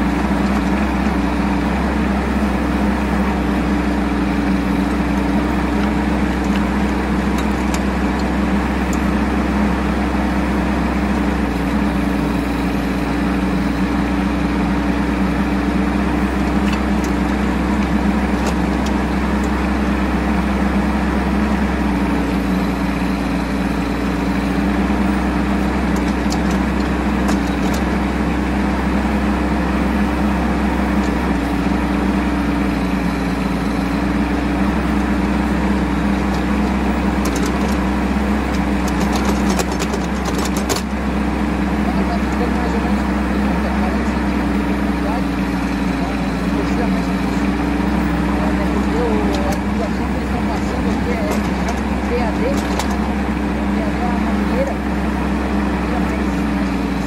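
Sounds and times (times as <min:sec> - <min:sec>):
mini excavator diesel engine: 0:00.0 - 0:57.0.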